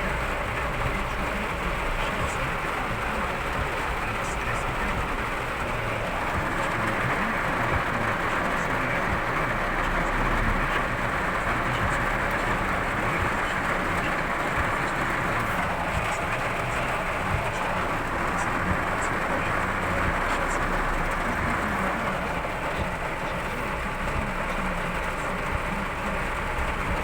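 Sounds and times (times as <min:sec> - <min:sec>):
torrential rain pouring: 0:00.0 - 0:27.0
traffic on wet street: 0:00.0 - 0:27.0.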